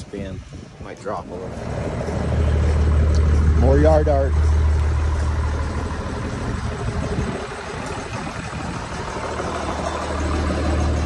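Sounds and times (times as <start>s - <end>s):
wind buffeting microphone: 0.0s - 11.0s
truck engine idling: 1.4s - 11.0s.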